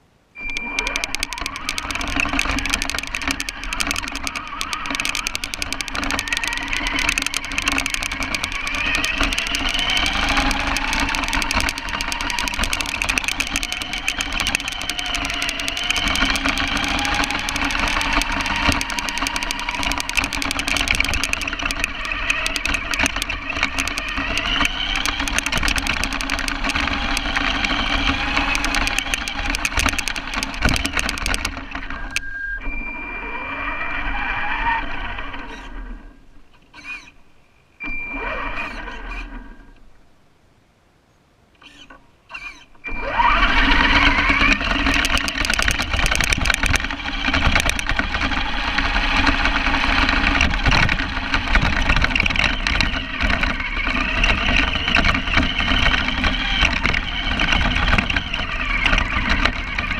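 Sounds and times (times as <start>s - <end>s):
running car noise: 0.4s - 32.2s, 42.8s - 59.9s
toy car motor whine: 0.4s - 36.1s, 36.7s - 37.2s, 37.8s - 39.8s, 41.6s - 59.9s.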